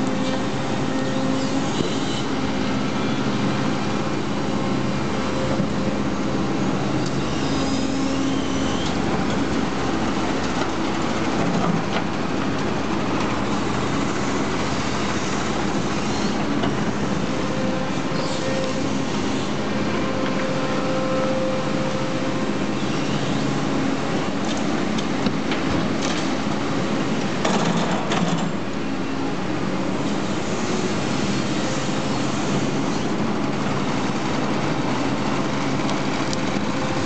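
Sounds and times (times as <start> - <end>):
excavator diesel engine: 0.0 - 37.0.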